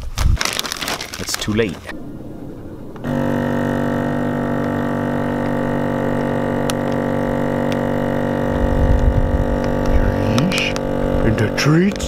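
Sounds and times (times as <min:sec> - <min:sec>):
low rumble: 0:01.8 - 0:12.0
vacuum sealer pump humming: 0:01.9 - 0:12.0.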